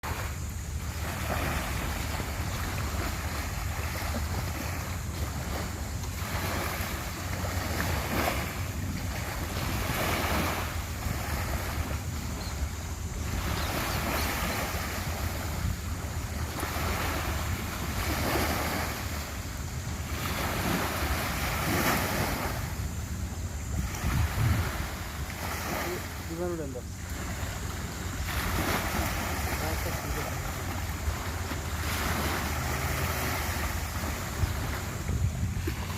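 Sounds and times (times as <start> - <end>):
sea waves washing in: 0.0 - 35.9
wind buffeting microphone: 0.3 - 35.9.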